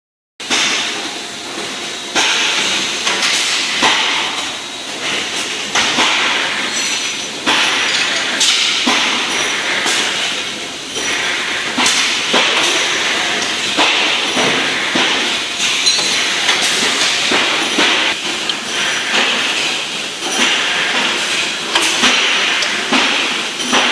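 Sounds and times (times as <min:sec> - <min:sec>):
machine clunking: 0:00.4 - 0:23.9
tube-bending machine hiss: 0:00.4 - 0:23.9.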